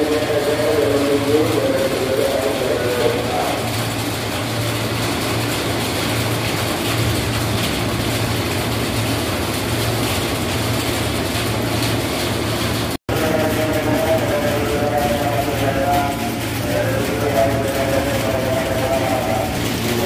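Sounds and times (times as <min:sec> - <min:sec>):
train equipment humming: 0:00.0 - 0:20.0.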